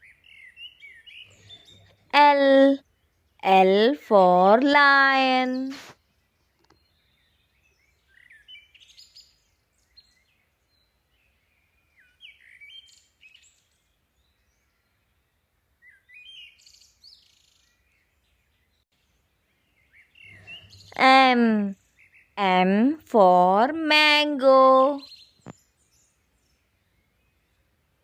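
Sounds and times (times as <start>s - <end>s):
faint birds chirping: 0.0s - 28.0s.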